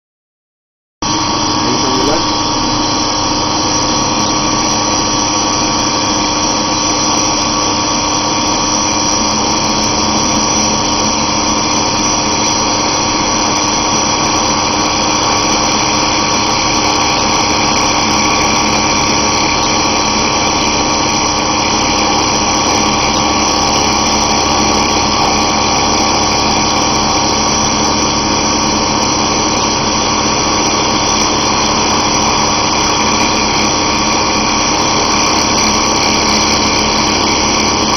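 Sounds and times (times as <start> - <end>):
wood router cutting wood: 1.1 - 37.9.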